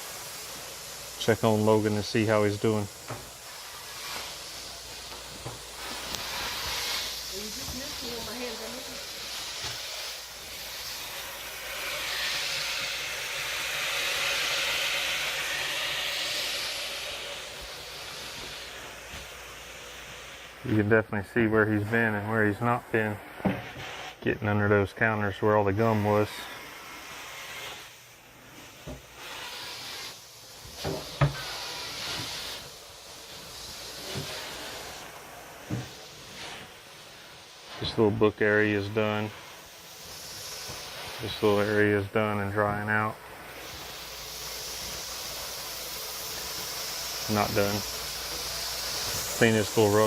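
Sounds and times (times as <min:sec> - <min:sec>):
extraction wand hissing: 0:00.0 - 0:50.0.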